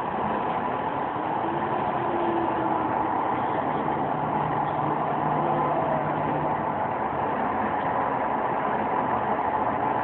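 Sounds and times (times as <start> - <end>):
steady mechanical drone: 0.0 - 10.0.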